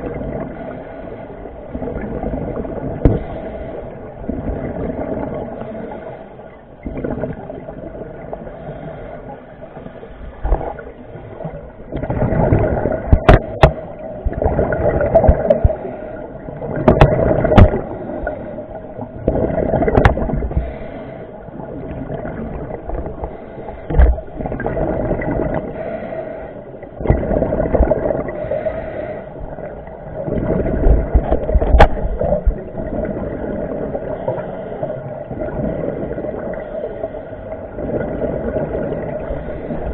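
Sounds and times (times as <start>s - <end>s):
underwater regulator bubbles: 0.0s - 6.2s, 6.8s - 9.1s, 9.8s - 39.9s.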